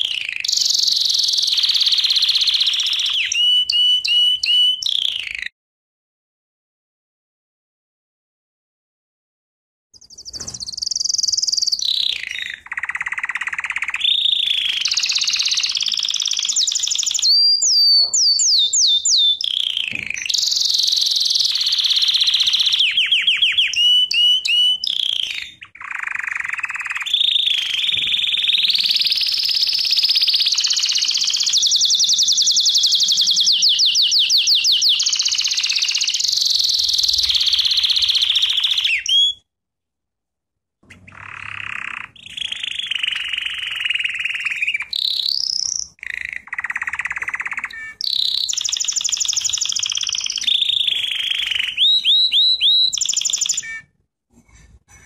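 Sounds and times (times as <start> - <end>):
canary singing: 0.0 - 5.5, 10.0 - 39.4, 40.8 - 54.0.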